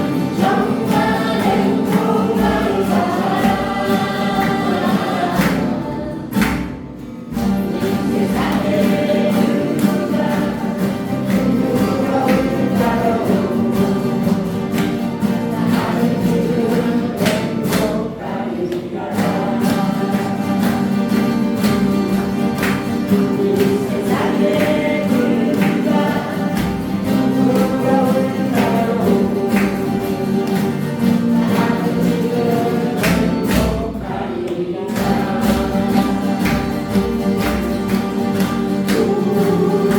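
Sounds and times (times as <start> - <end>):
group singing in chorus: 0.0 - 39.9
strummed acoustic guitars: 0.0 - 39.9.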